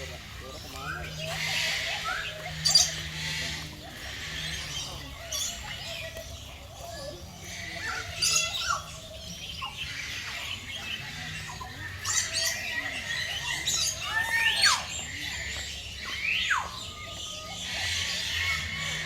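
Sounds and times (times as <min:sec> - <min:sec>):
birds squawking: 0:00.0 - 0:19.0.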